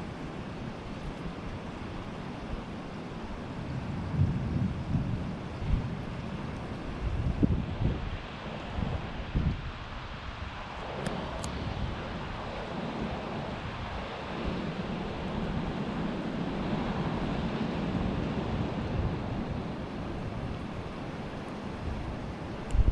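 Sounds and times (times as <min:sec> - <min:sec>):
sea: 0:00.0 - 0:22.9
wind buffeting microphone: 0:00.0 - 0:22.9.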